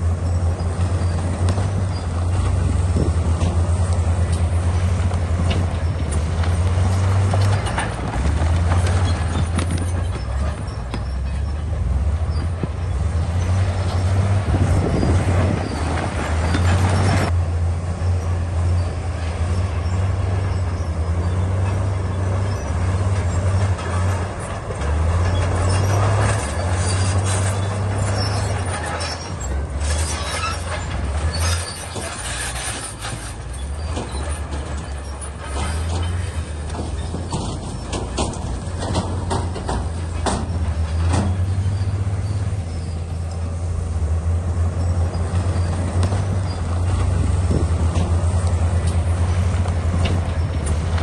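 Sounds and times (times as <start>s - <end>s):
diesel engine under load: 0.0s - 51.0s
steel tracks clanking over rock: 0.0s - 51.0s.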